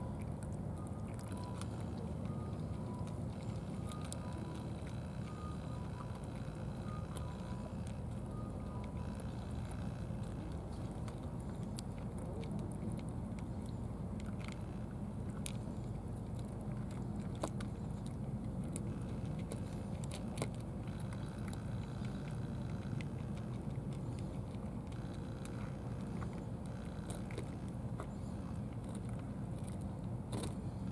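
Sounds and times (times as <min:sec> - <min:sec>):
cats chewing and lapping food: 0:00.0 - 0:30.9
steady low rumble: 0:00.0 - 0:30.9.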